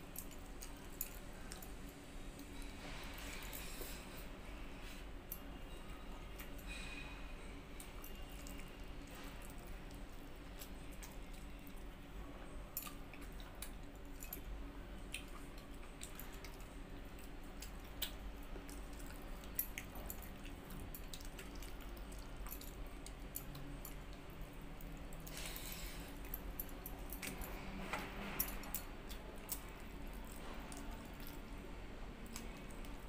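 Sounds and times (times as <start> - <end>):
chewing: 0.2 - 7.0, 7.8 - 33.0.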